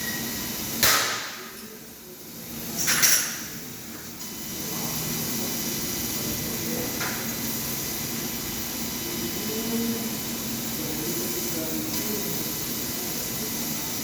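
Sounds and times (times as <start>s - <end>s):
air blower hissing: 0.0s - 14.0s.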